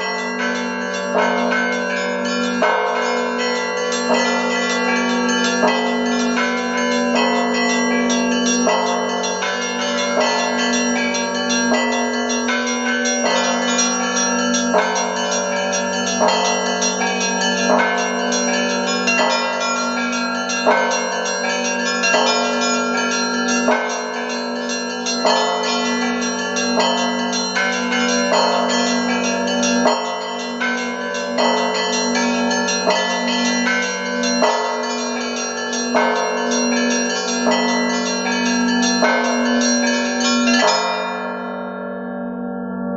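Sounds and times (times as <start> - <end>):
deep bells humming: 0.0 - 41.6
small bells struck rhythmically: 0.0 - 42.5.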